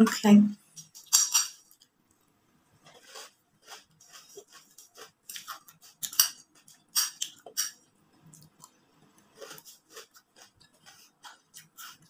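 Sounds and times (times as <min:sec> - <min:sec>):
person chewing crunchy food: 0:00.8 - 0:12.0.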